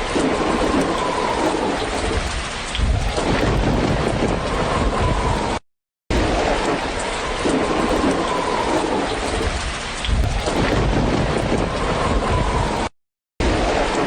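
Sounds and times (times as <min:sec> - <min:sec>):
steady rain falling: 0:00.0 - 0:05.6, 0:06.2 - 0:12.9
low rumbling thunder: 0:00.0 - 0:14.0.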